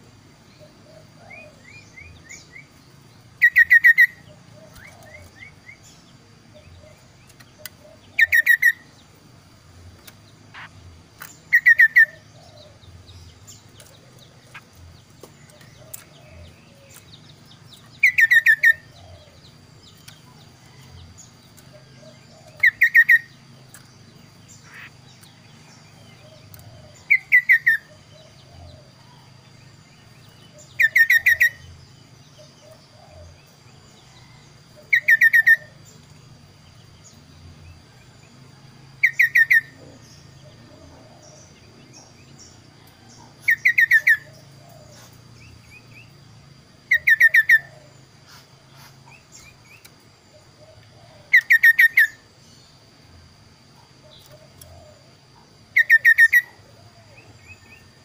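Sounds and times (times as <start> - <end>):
bird singing whistled notes: 0.6 - 9.1, 10.5 - 36.1, 38.8 - 46.1, 46.8 - 48.0, 49.1 - 52.3, 55.7 - 58.0.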